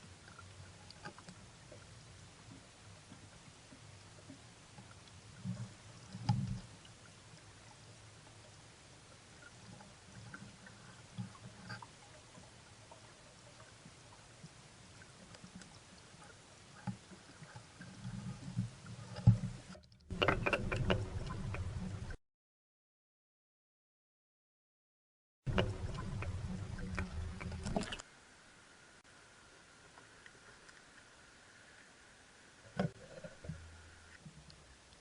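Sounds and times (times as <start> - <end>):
water sounds: 0.0 - 22.2, 25.5 - 35.0.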